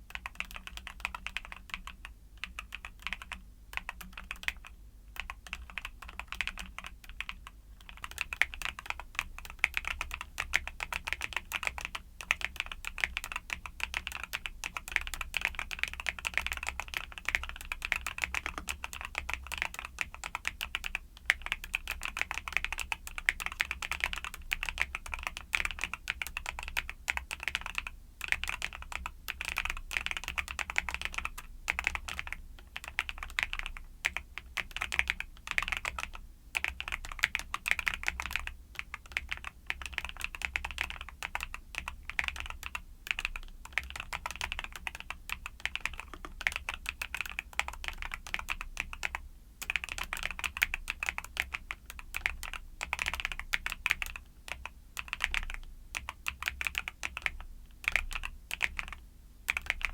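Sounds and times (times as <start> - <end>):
fast mechanical keyboard typing: 0.1 - 59.9.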